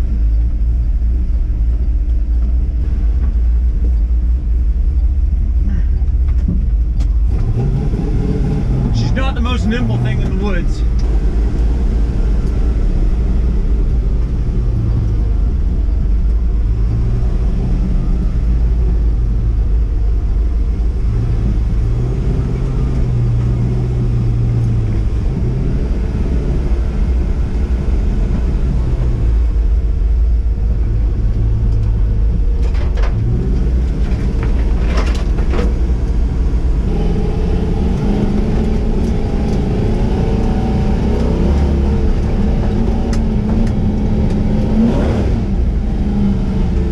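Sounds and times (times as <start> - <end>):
truck engine under load: 0.0 - 46.9.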